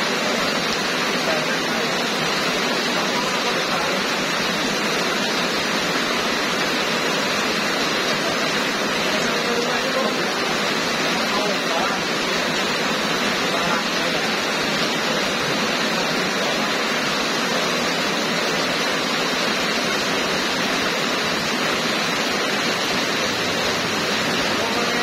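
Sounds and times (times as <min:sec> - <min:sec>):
heavy rain hissing: 0:00.0 - 0:25.0.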